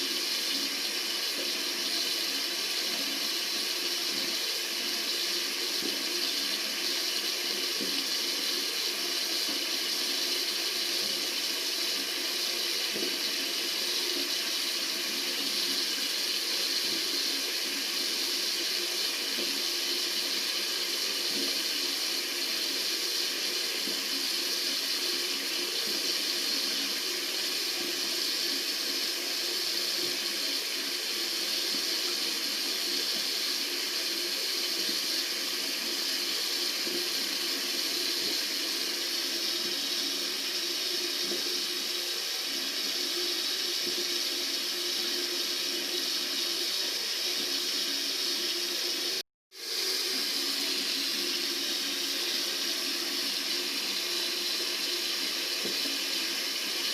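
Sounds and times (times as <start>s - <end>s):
tap water running: 0.0s - 56.9s.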